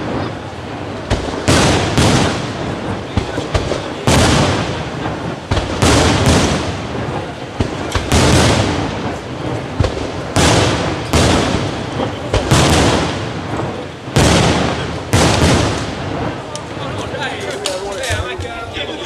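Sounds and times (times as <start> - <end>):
crackling hiss of falling sparks: 0.0 - 18.5
firework shells bursting: 0.9 - 18.4.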